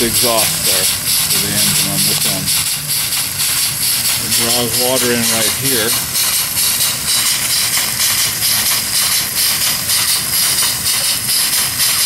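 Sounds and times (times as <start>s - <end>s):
steam pump exhaust hissing: 0.0s - 12.0s.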